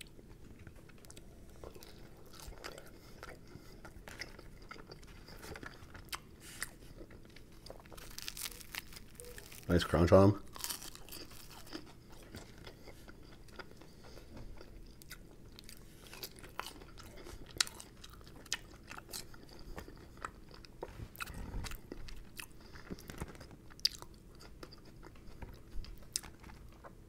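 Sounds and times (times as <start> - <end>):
chewing crisp potato wedge: 0.0 - 27.0.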